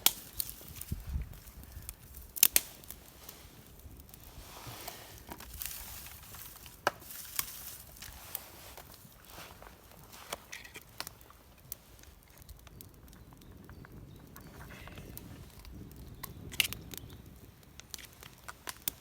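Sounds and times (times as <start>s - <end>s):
wood crackling and snapping: 0.0s - 19.0s.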